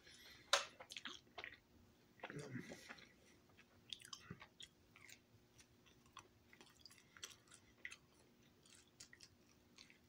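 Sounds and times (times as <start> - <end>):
faint chewing: 0.0 - 10.0.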